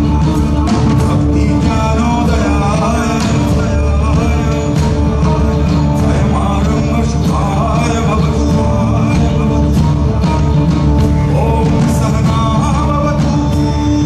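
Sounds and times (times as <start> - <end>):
live rock band: 0.0 - 14.0
man singing: 0.0 - 14.0.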